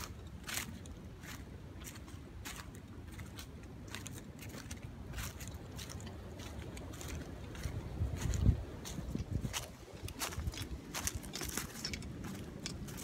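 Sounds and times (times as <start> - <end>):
footsteps on dry leaves: 0.0 - 13.0.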